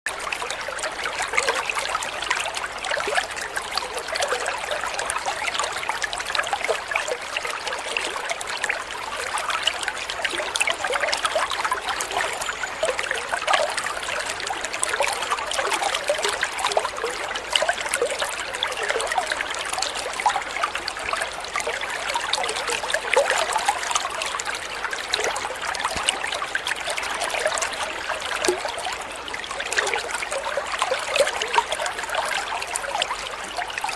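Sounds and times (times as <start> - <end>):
water trickling into aquarium: 0.1 - 33.9.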